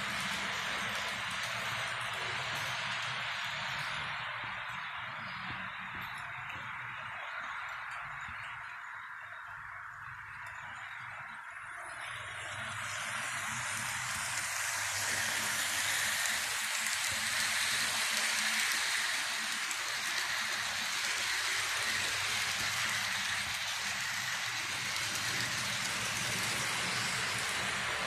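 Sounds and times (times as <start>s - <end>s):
model train wheels rolling on rails: 0.0s - 28.0s.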